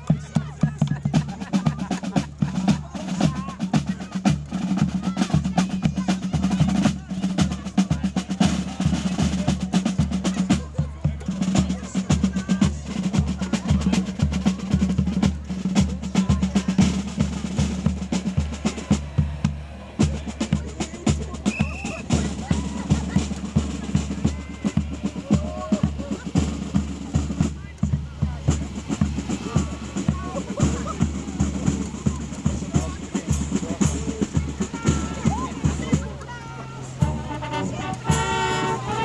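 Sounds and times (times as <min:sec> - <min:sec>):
bass drum beat: 0:00.0 - 0:39.0
snare drum rolls: 0:00.0 - 0:39.0.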